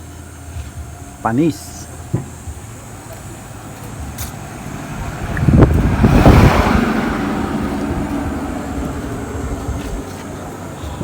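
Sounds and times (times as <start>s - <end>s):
diesel engine starting and idling: 0.0s - 11.0s.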